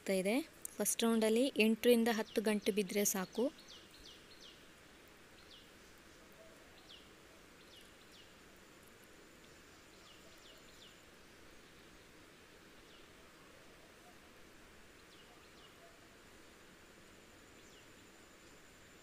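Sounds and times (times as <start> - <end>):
faint hiss: 0.0 - 19.0.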